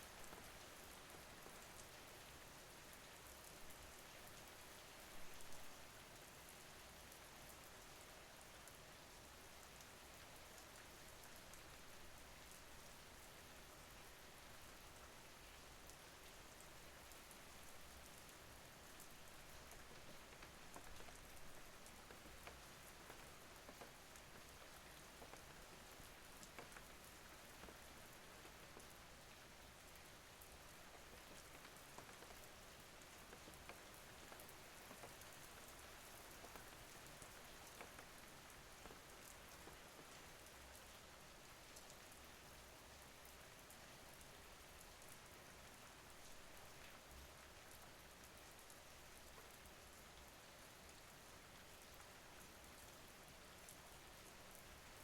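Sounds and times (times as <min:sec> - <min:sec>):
faint steady rain: 0:00.0 - 0:55.0.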